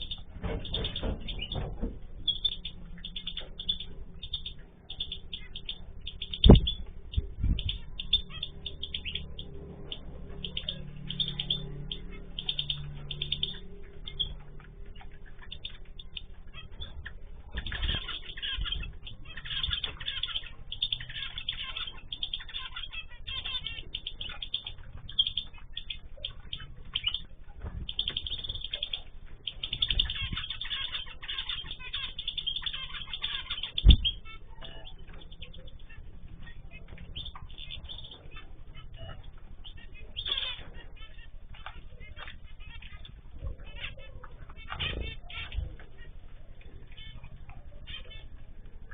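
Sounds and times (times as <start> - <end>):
cage birds chirping: 0.0 - 48.9
wings fluttering: 0.0 - 48.9.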